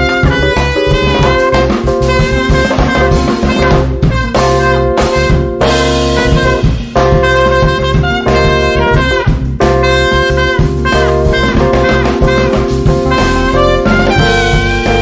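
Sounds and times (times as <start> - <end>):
drum kit: 0.0 - 15.0
electric bass guitar: 0.0 - 15.0
trumpet playing: 0.0 - 15.0.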